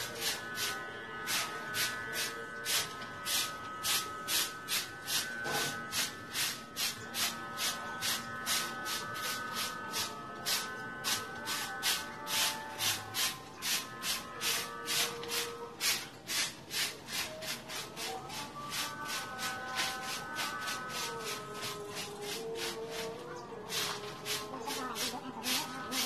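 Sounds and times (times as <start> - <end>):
broom sweeping dry leaves: 1.3 - 26.0.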